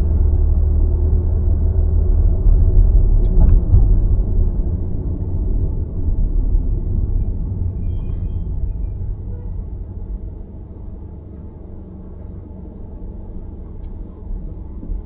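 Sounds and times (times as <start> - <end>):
car road and tyre rumble: 0.0 - 15.0.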